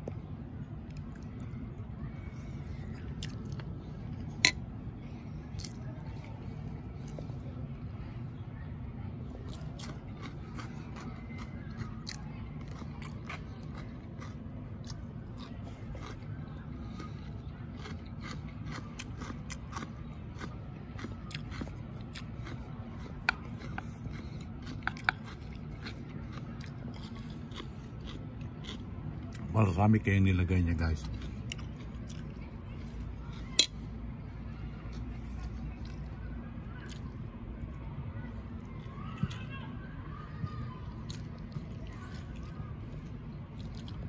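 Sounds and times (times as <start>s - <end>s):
chewing crunchy cucumber: 0.0s - 39.7s, 40.5s - 44.0s
low background hum: 0.0s - 44.0s.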